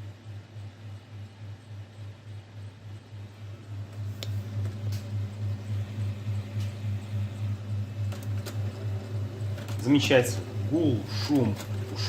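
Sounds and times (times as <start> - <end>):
printer pulsing drone: 0.0 - 12.0.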